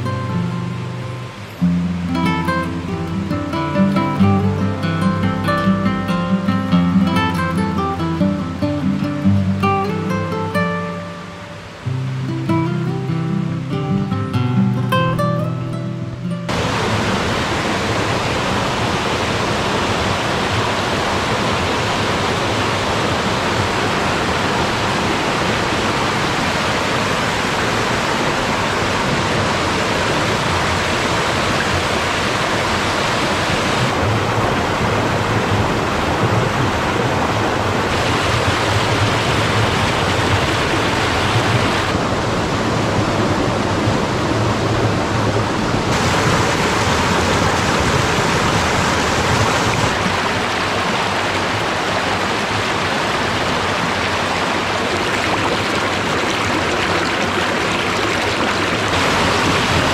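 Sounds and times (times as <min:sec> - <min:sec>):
stream rushing: 0:00.0 - 0:59.9.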